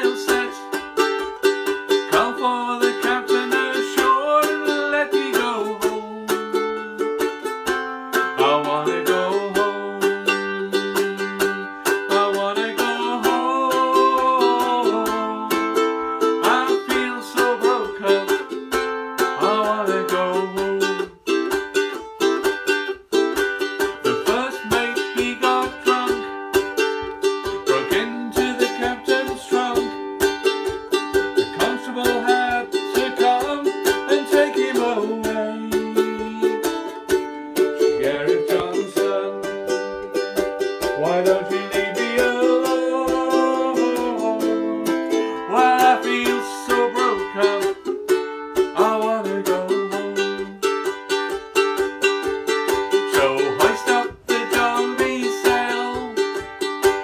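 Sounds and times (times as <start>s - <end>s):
ukulele strumming chords: 0.0s - 57.0s.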